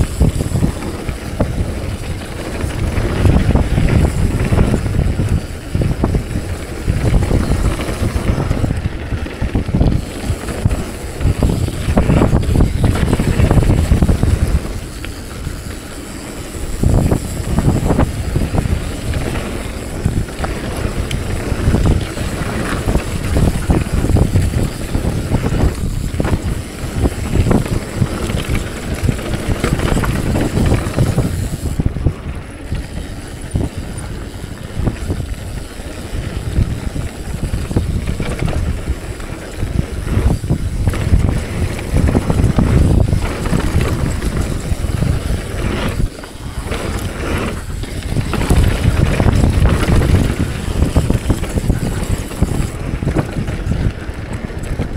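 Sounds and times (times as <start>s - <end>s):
bike knocks and rattles: 0.0s - 54.9s
bike tyre rumble: 0.0s - 54.9s
wind buffeting microphone: 0.0s - 54.9s.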